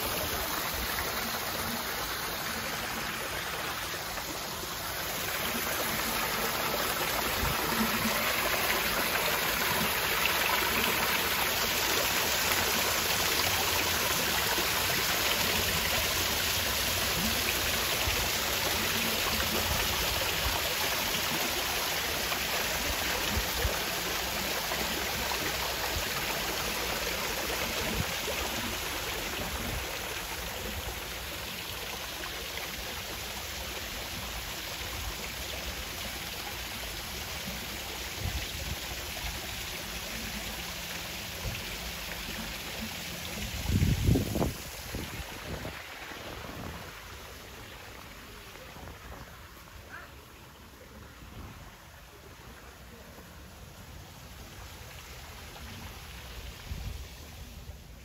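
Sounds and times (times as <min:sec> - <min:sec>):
water trickling in stream: 0:00.0 - 0:58.0.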